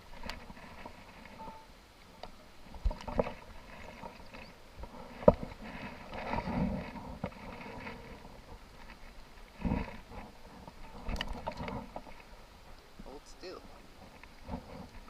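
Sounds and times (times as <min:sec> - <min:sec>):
handling rustle: 0:00.0 - 0:12.9.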